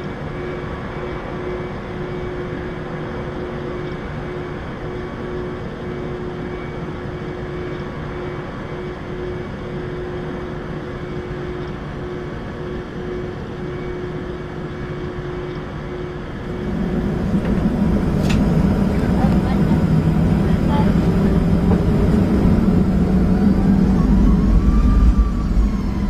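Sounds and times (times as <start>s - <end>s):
jet engines humming in cabin: 0.0s - 26.0s.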